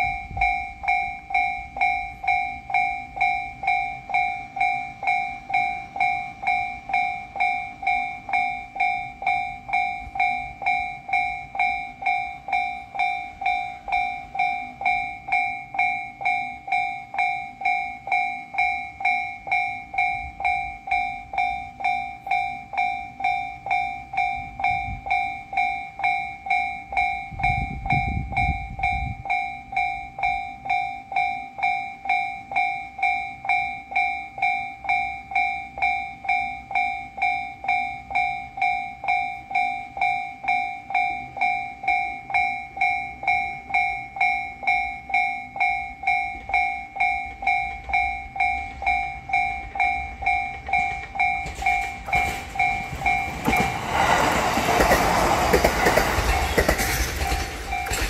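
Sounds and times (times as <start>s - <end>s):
electric train passing: 0.0s - 58.0s
level-crossing warning bell: 0.0s - 58.0s.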